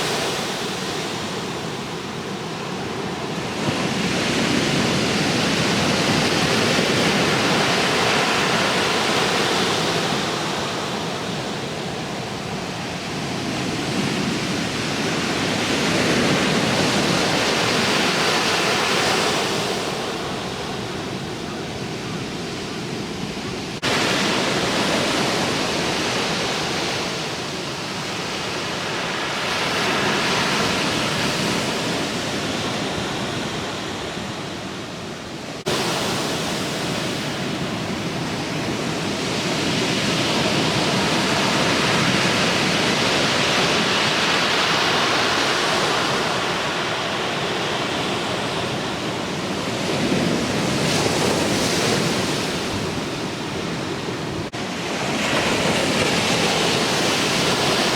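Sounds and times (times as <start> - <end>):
surf waves breaking: 0.0 - 57.9.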